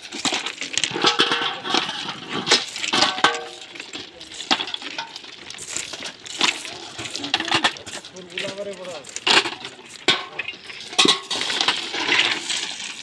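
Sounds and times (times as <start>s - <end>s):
stones clattering into steel pans: 0.0s - 13.0s.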